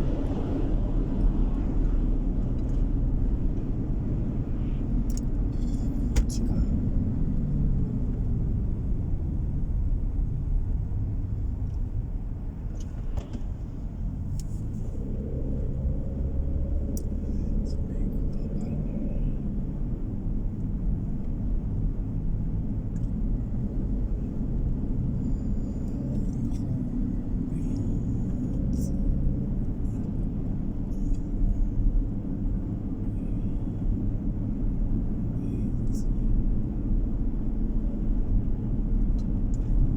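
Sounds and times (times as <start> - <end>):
road and engine rumble in car: 0.0 - 39.9
faint steady hum: 3.9 - 39.9.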